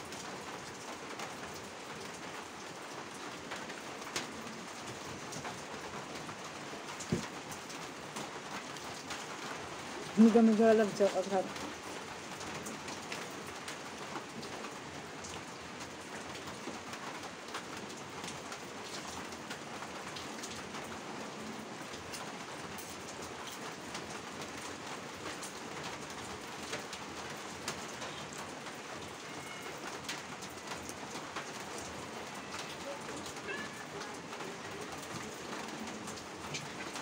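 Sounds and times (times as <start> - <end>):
steady rain hiss: 0.0 - 37.0
raindrop ticks: 0.1 - 37.0.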